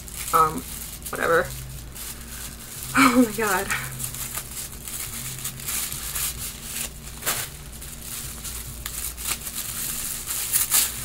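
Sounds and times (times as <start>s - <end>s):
gift wrapping rustling and crinkling: 0.0s - 11.0s.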